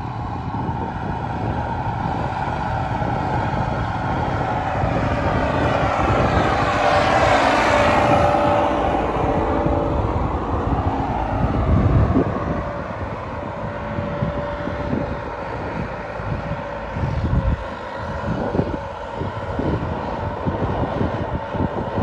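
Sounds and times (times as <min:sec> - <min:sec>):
diesel tractor engine under load: 0:00.0 - 0:22.0
wind buffeting microphone: 0:00.0 - 0:22.0.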